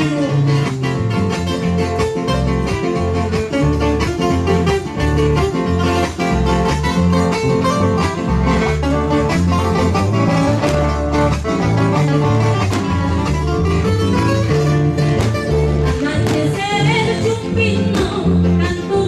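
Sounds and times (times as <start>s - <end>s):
electric bass line: 0.0s - 19.0s
strummed acoustic guitars: 0.0s - 19.0s.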